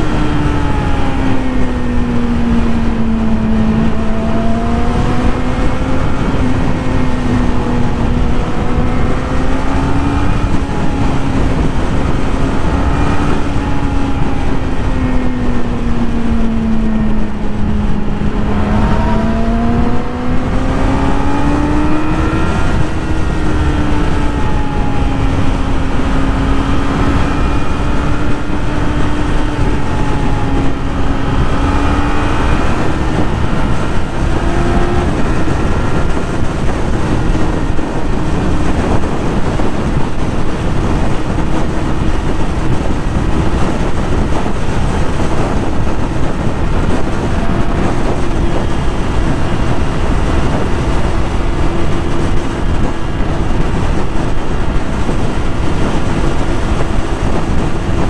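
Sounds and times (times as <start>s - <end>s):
motorcycle engine at high revs: 0.0s - 58.0s
steady rushing noise: 0.0s - 58.0s.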